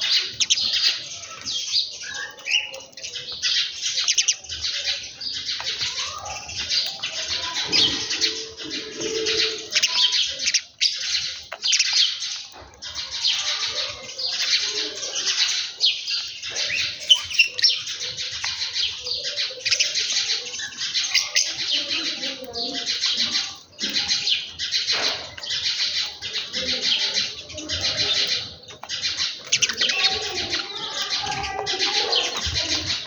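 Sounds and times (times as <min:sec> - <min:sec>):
lower bird calls: 0:00.0 - 0:33.0
small birds chirping: 0:00.0 - 0:33.0.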